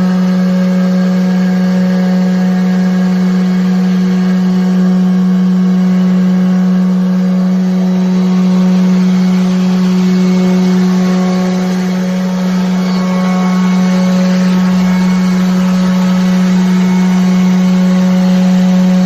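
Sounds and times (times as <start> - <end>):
wood router cutting wood: 0.0 - 19.0.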